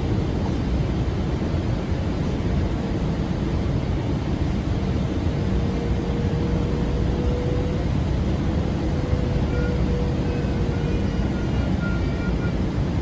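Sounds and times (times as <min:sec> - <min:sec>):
airplane cabin engine and airflow roar: 0:00.0 - 0:13.0
faint steady hum: 0:00.0 - 0:13.0.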